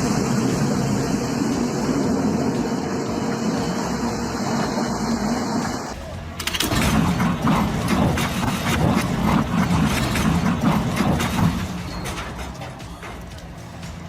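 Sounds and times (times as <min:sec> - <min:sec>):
large engine running hard: 0:00.0 - 0:14.0.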